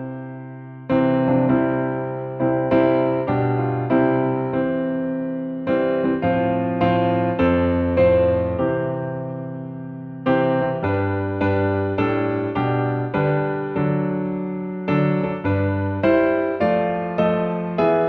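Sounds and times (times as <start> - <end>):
piano playing hymn chords: 0.0 - 18.0.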